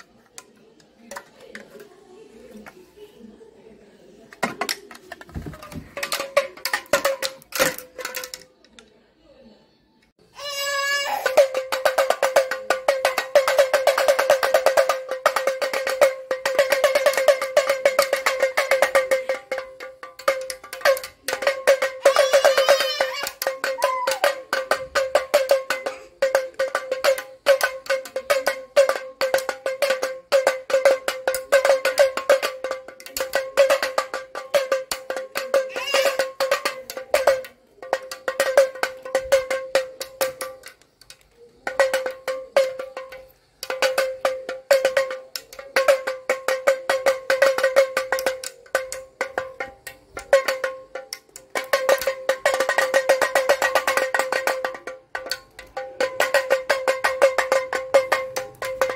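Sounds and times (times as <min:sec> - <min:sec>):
pellet drum rattling: 0:04.4 - 0:08.5, 0:11.3 - 0:58.9.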